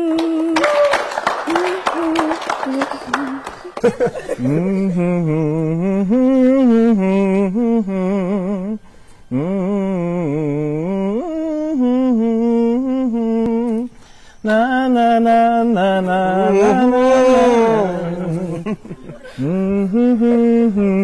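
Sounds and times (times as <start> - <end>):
man humming: 0.0 - 0.9, 1.5 - 21.0.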